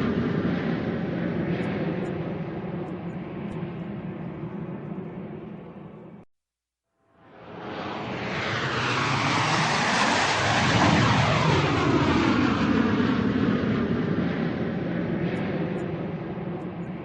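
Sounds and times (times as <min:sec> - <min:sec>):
airplane engine rush: 0:00.0 - 0:06.3, 0:07.2 - 0:17.0.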